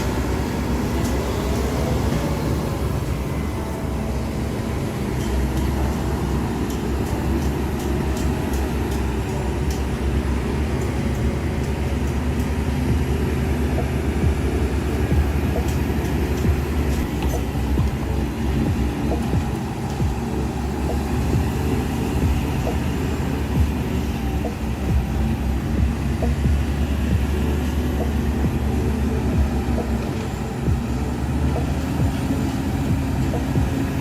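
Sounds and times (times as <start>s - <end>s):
heavy diesel machinery rumbling: 0.0s - 34.0s.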